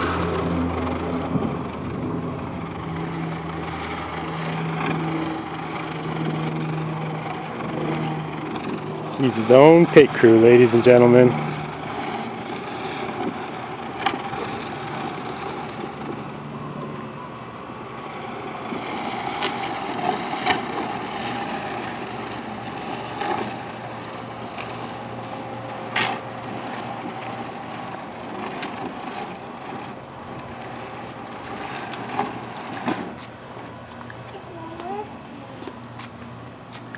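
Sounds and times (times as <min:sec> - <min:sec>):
plastic wheels grinding over ground: 0:00.0 - 0:36.9.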